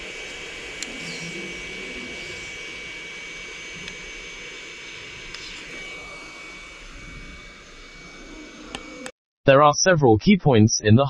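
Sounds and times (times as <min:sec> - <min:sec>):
heat gun blowing hiss: 0:00.0 - 0:09.1
high fan whine: 0:00.0 - 0:09.1.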